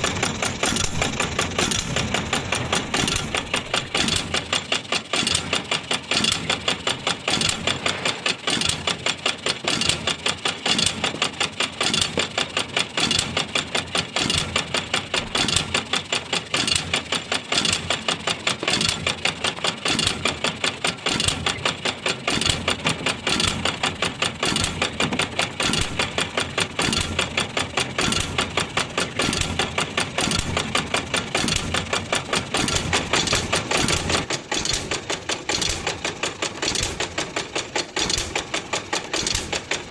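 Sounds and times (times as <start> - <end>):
stationary engine clattering: 0.0 - 39.9.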